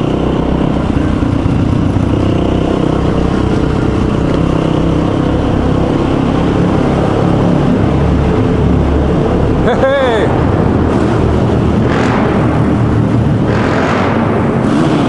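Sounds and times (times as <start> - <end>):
motorcycles running in tunnel: 0.0 - 15.0.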